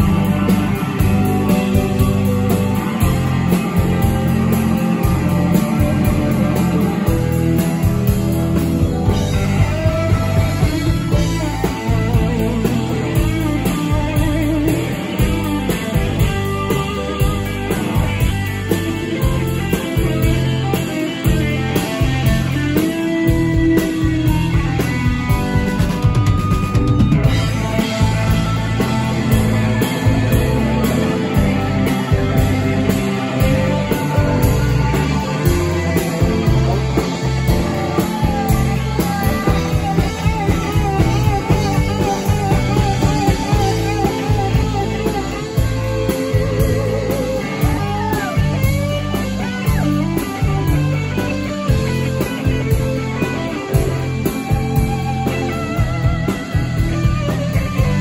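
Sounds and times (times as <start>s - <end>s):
bass guitar: 0.0s - 58.0s
drums: 0.0s - 58.0s
electric guitar lead: 0.0s - 58.0s
live rock band playing: 0.0s - 58.0s.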